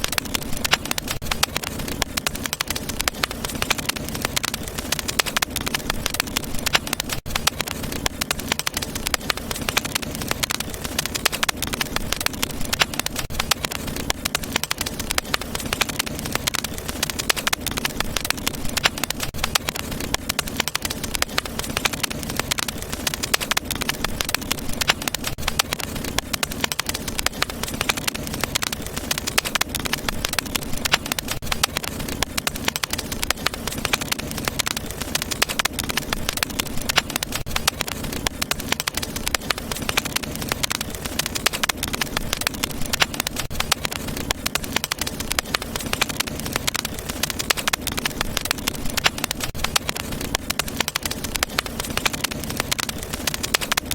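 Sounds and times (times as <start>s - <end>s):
low rumble of flames: 0.0s - 53.9s
wood fire crackling: 0.0s - 53.9s.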